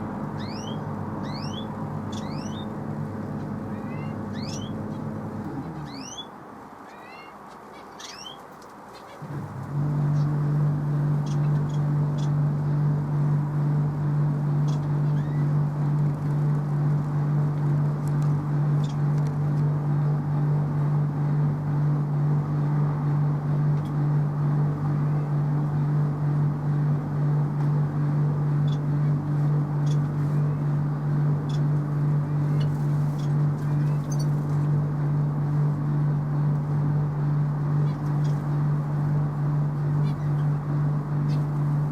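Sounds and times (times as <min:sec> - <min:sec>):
motor humming: 0:00.0 - 0:06.2, 0:09.2 - 0:41.9.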